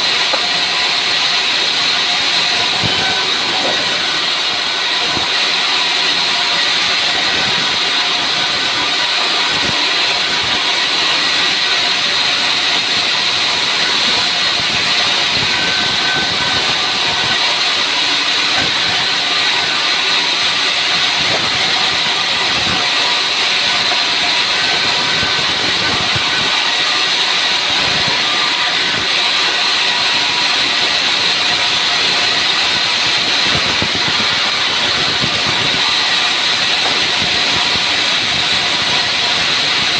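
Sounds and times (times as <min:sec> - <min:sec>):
saw cutting through wood: 0:00.0 - 0:39.9.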